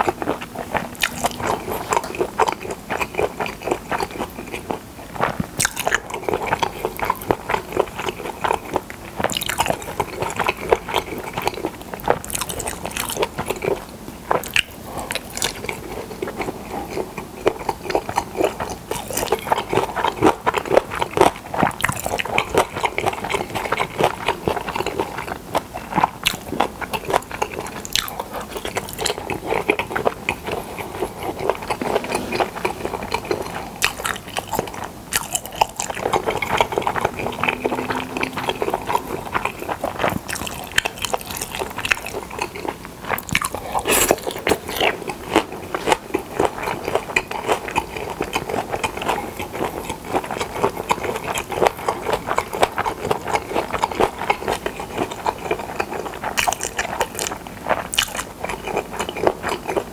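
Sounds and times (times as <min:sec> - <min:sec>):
chewing and biting with clicks: 0:00.0 - 0:59.9.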